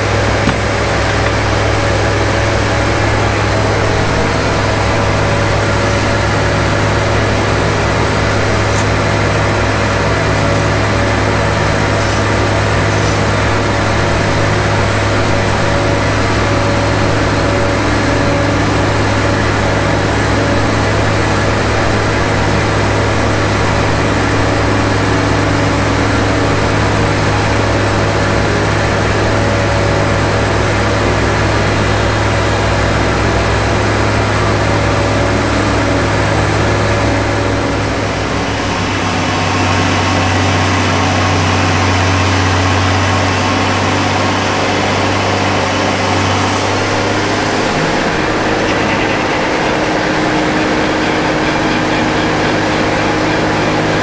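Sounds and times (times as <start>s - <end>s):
sawmill engine and spinning blade: 0.0s - 54.0s.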